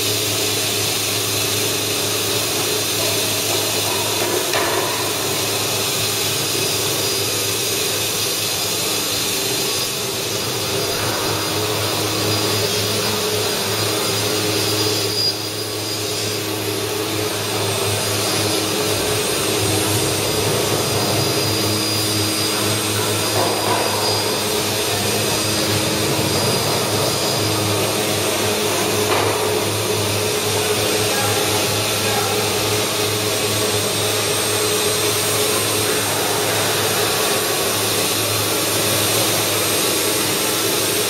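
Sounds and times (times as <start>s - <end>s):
wood router whining: 0.0s - 41.0s.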